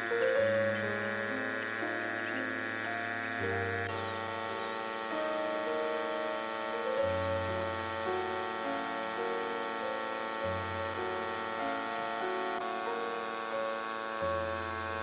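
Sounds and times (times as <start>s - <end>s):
sustained chords with slow melody: 0.0s - 15.0s.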